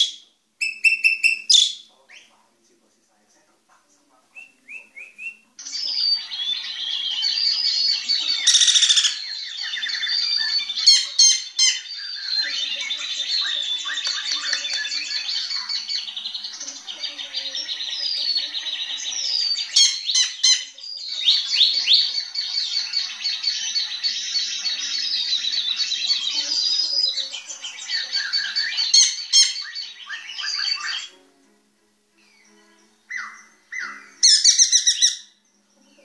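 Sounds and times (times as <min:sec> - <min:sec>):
bird singing trills and whistles: 0:00.0 - 0:02.3, 0:04.3 - 0:31.2, 0:32.2 - 0:36.0.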